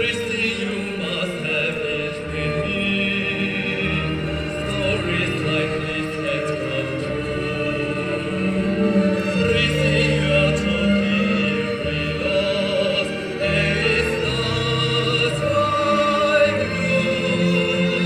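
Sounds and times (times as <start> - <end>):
held orchestral chords: 0.0 - 18.0
operatic singing: 0.0 - 18.0.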